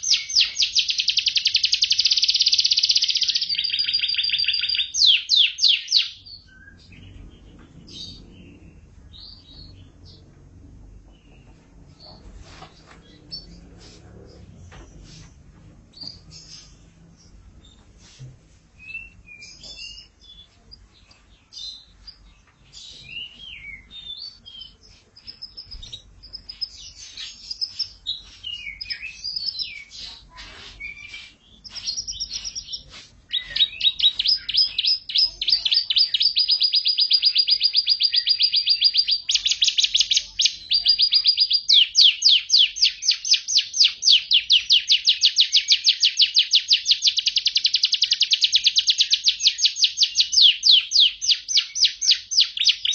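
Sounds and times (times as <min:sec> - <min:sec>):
canary singing: 0:00.0 - 0:12.2, 0:18.8 - 0:52.9.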